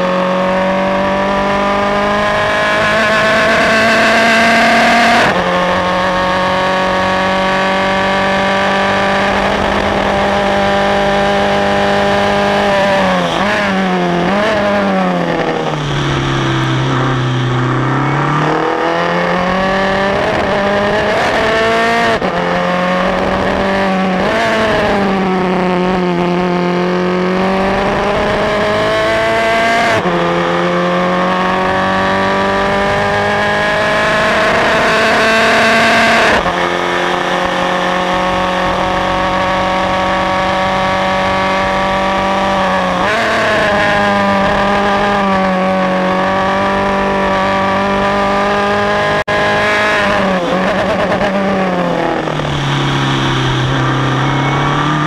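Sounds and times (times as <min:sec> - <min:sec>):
race car engine at speed: 0:00.0 - 0:55.0.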